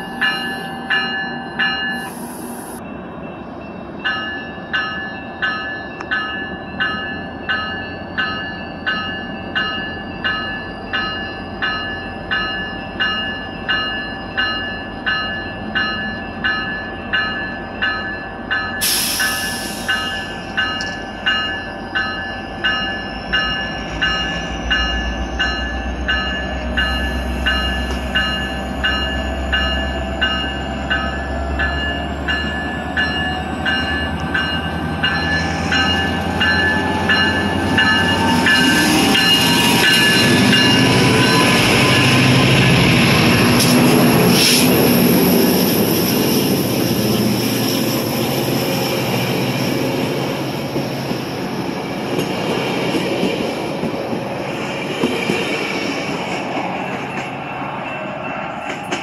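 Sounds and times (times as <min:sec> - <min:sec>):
train rumble and rail noise: 0:00.0 - 0:59.0.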